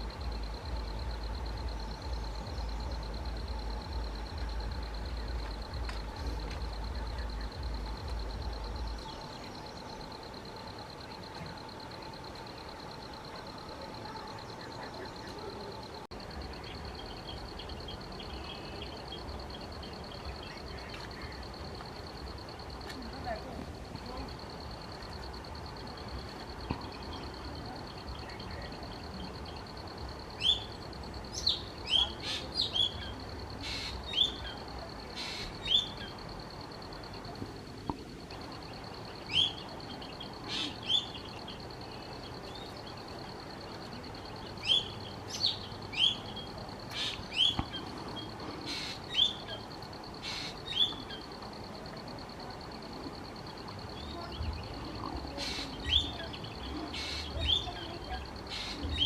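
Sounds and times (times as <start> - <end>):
songbird chirping: 0.0 - 59.0
steady high-pitched whine: 0.0 - 59.0.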